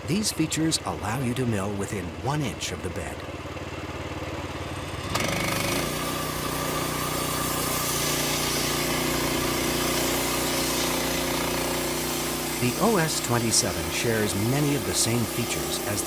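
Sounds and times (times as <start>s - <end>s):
small gasoline engine revving: 0.0s - 16.0s.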